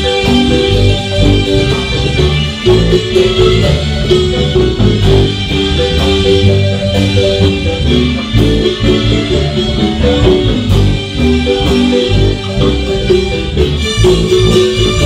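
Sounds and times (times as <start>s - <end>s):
marimba band music: 0.0s - 15.0s.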